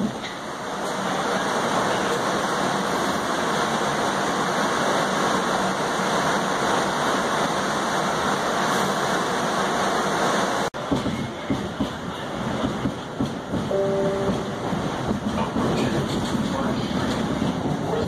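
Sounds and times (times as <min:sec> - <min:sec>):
subway car running on track: 0:00.0 - 0:18.0.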